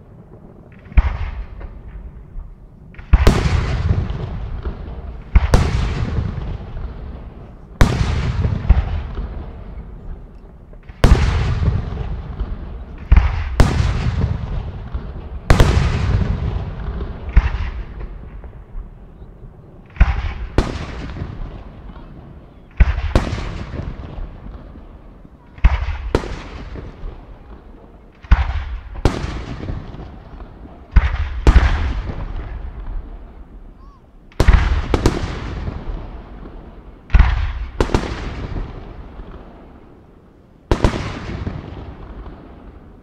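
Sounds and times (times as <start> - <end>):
rolling echo: 0.0 - 43.0.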